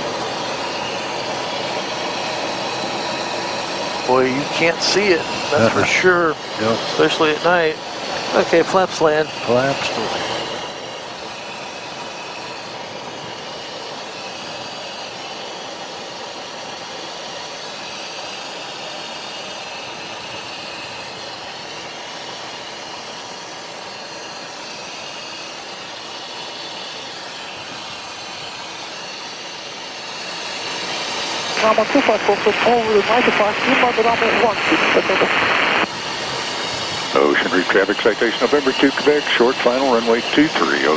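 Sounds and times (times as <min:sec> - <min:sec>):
cockpit airflow and jet engines: 0:00.0 - 0:40.9.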